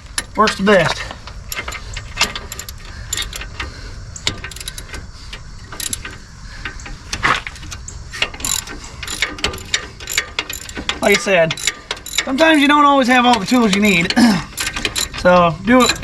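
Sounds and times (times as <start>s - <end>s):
ratchet wrench clicking: 0.1s - 16.0s.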